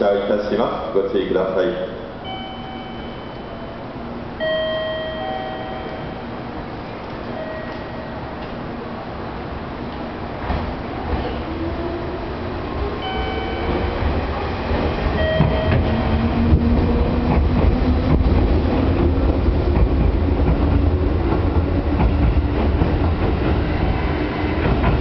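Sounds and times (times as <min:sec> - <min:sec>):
heavy train rumble: 0:00.0 - 0:25.0.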